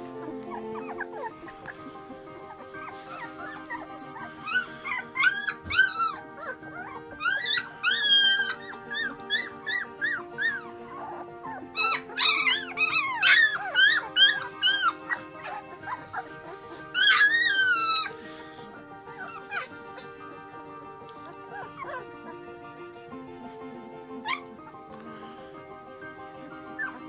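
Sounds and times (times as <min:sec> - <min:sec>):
dog whining: 0:00.0 - 0:20.2, 0:21.0 - 0:22.6, 0:24.2 - 0:25.1, 0:26.1 - 0:27.0
music with long held notes: 0:00.0 - 0:27.0.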